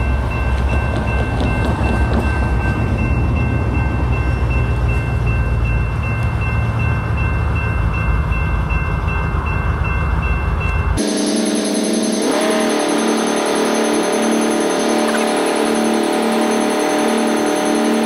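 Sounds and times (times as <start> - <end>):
diesel locomotive rumble: 0.0 - 18.0.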